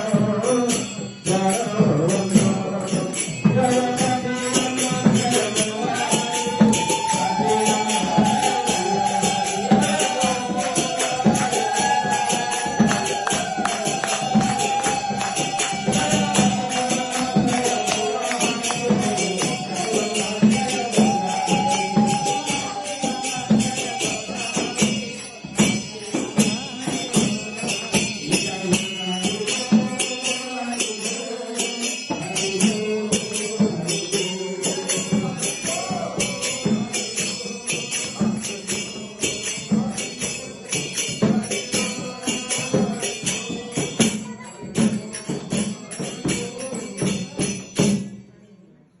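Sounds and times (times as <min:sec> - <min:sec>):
hand cymbal strokes: 0:00.0 - 0:48.1
drum beat: 0:01.3 - 0:30.2, 0:32.1 - 0:48.1
group chanting: 0:03.6 - 0:47.5.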